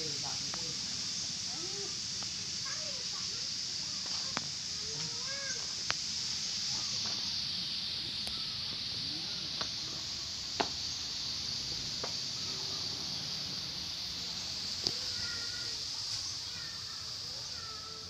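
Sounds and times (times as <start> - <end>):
faint distant voices: 0.0 - 18.0
insects droning: 0.0 - 18.0.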